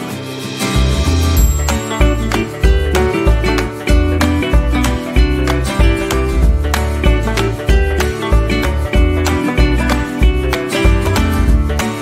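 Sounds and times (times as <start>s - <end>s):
upbeat acoustic guitar music: 0.0s - 12.0s.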